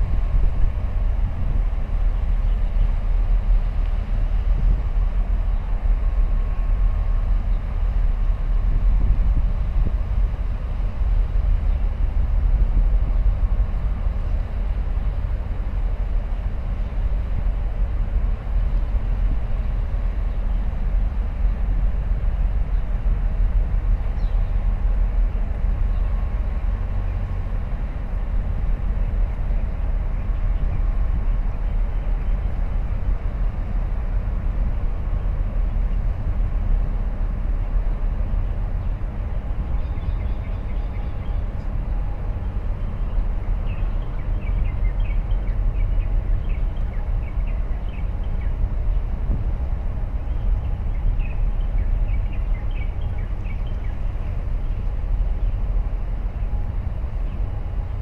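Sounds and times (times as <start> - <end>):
faint steady hum: 0.0 - 58.0
ship engine low rumble: 0.0 - 58.0.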